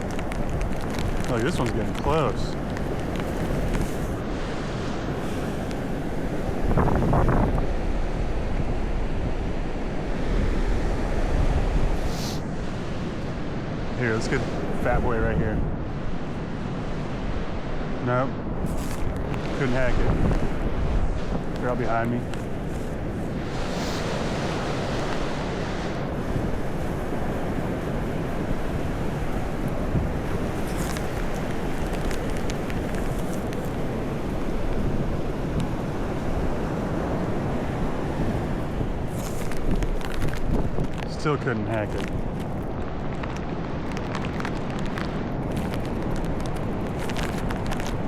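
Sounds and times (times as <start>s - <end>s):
ocean surf: 0.0s - 48.0s
wind buffeting microphone: 0.0s - 48.0s.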